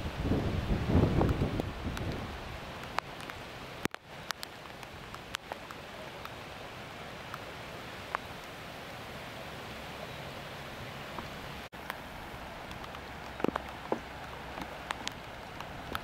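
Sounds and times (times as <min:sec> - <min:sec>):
floodwater running: 0:00.0 - 0:16.0.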